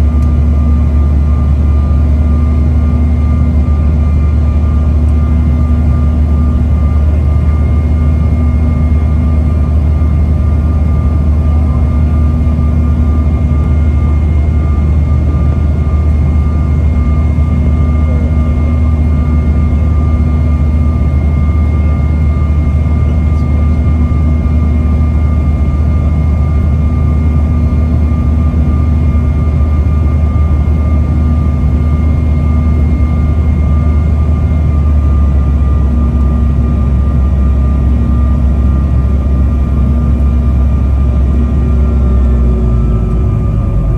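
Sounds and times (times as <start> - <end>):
engine and airflow rumble: 0.0 - 43.9.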